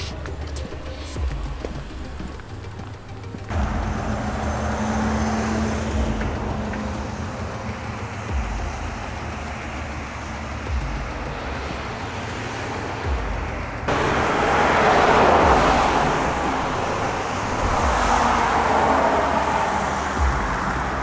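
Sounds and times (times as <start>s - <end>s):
cars going by: 0.0s - 21.0s.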